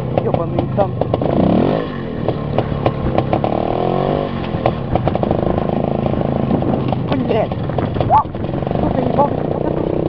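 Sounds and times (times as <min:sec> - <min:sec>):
motorcycle knocks and rattles: 0:00.0 - 0:10.0
two-stroke motorcycle engine revving: 0:00.0 - 0:10.0.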